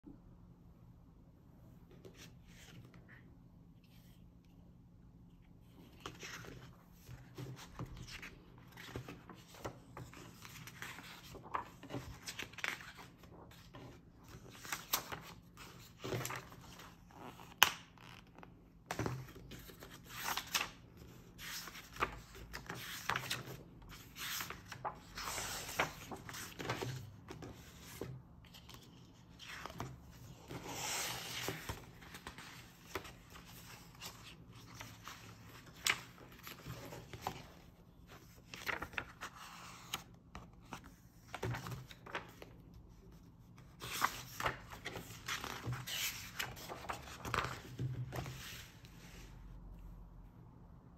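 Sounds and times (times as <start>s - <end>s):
paper pages rustling: 5.8s - 42.6s, 43.2s - 49.2s.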